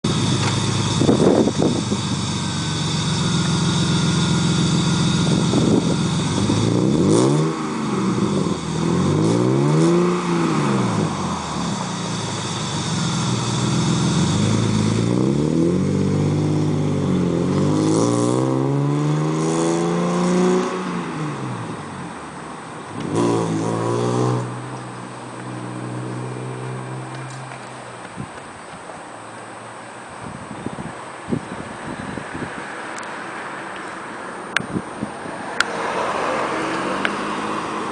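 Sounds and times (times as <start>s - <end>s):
car engine revving: 0.0s - 28.0s, 35.4s - 37.9s.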